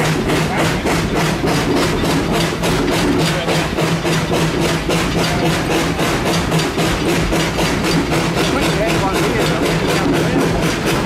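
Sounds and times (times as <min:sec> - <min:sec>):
steam locomotive exhaust beats: 0:00.0 - 0:11.0.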